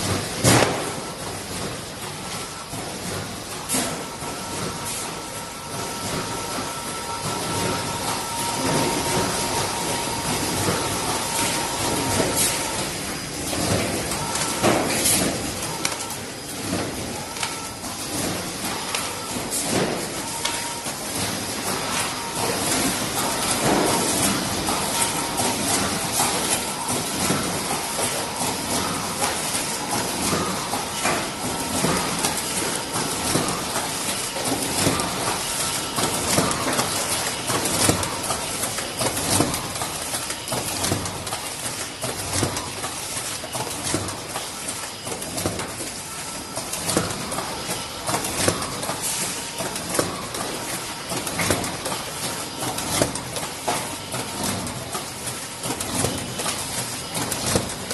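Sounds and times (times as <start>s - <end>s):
machine clattering: 0.0s - 57.9s.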